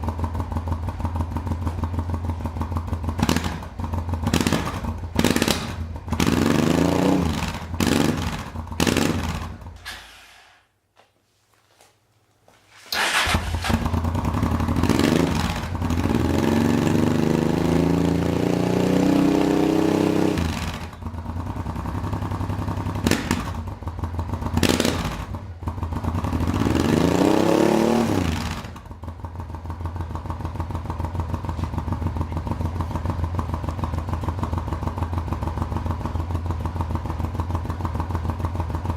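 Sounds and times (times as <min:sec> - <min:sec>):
motorcycle engine idling: 0:00.0 - 0:09.9, 0:13.0 - 0:18.7, 0:20.5 - 0:26.8, 0:28.5 - 0:38.9
motorcycle engine revving: 0:00.0 - 0:10.0, 0:13.0 - 0:38.9.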